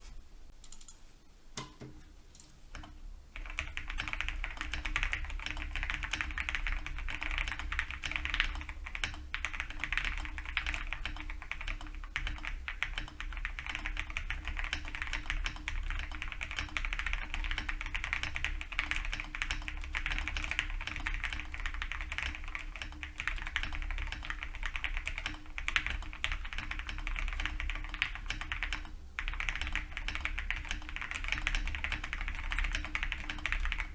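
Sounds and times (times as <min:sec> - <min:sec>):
fast typing on mechanical keyboard: 0:02.7 - 0:33.9.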